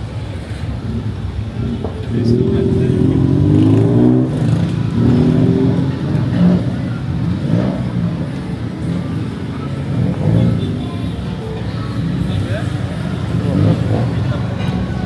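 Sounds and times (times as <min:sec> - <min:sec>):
vehicle engine revving: 0:00.8 - 0:11.3, 0:11.9 - 0:15.0.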